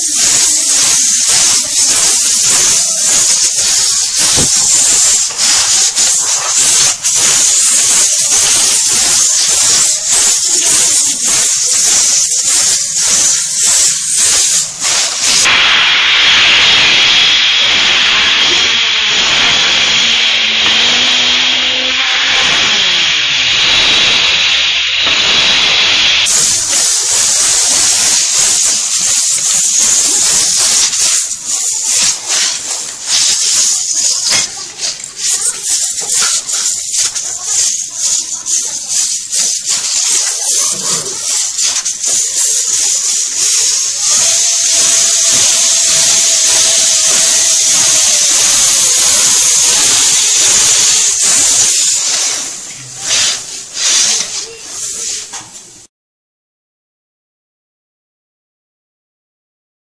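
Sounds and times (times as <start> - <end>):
air blower hissing: 0.0 - 55.9.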